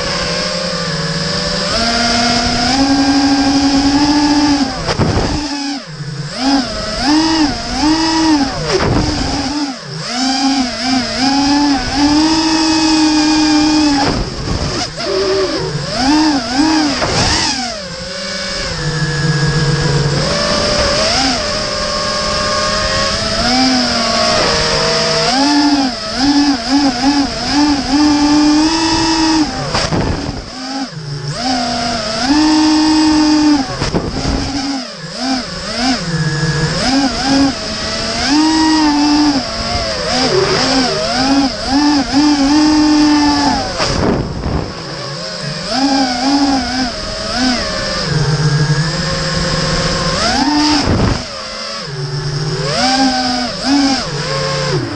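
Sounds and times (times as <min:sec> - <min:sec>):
quadcopter motors whining: 0:00.0 - 0:54.9.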